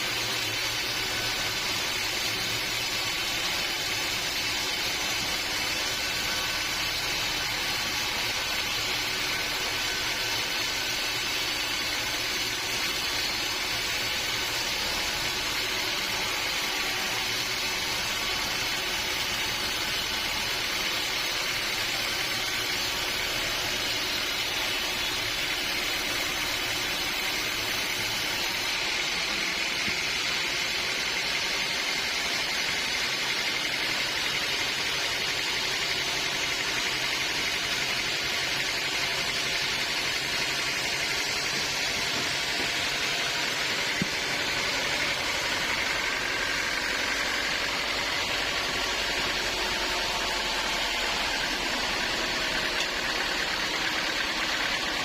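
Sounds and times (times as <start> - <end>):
sawmill machinery hiss: 0.0 - 55.0.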